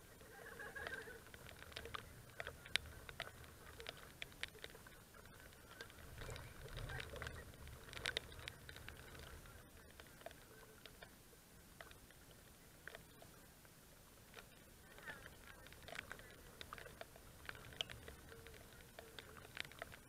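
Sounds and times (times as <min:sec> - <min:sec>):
faint low rumble: 0:00.0 - 0:20.0
light rain pattering: 0:00.0 - 0:20.0.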